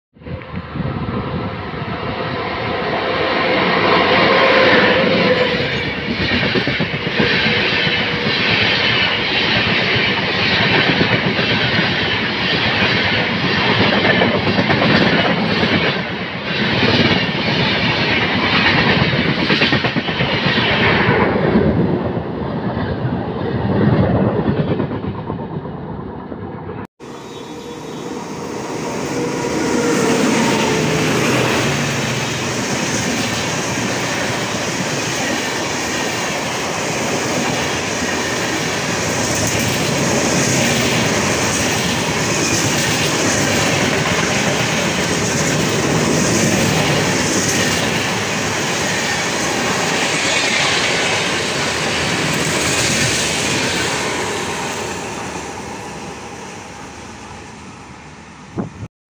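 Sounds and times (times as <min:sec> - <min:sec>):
train rushing past: 0:00.2 - 0:58.9.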